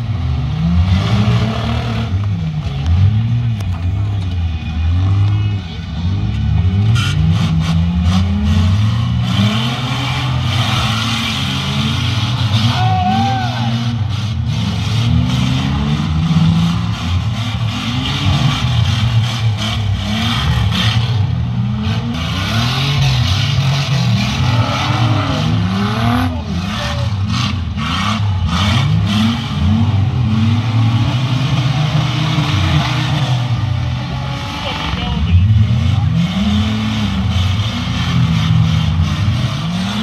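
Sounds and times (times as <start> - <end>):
car engines revving hard: 0.0 - 40.0.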